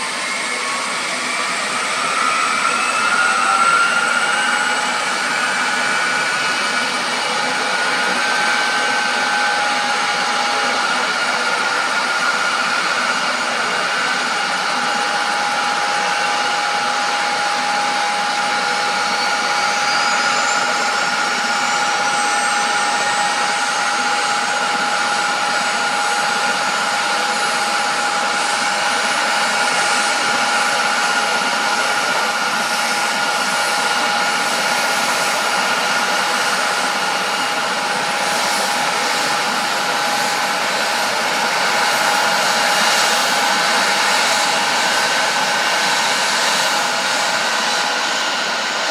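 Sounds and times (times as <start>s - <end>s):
helicopter turbine engine whine: 0.0s - 48.9s.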